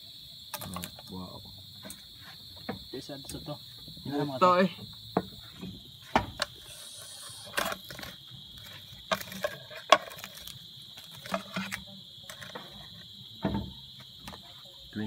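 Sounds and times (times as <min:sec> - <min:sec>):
cricket trill: 0:00.0 - 0:15.0.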